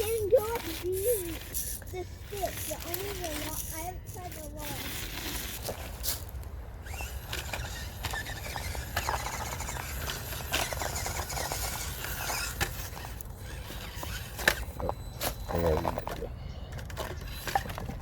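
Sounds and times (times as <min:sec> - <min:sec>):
electric motors and gears whining: 0:00.0 - 0:18.0.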